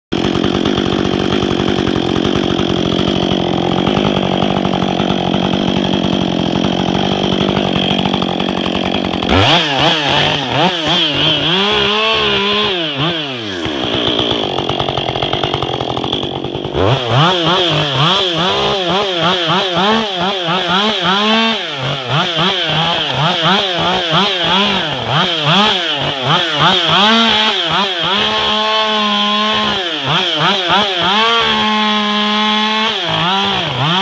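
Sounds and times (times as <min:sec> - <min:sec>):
chainsaw revving: 0:00.1 - 0:34.0.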